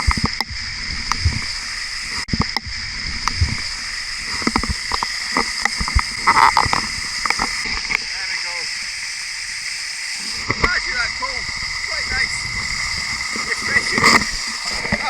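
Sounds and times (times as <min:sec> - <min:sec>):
water running over rock: 0:00.0 - 0:15.0.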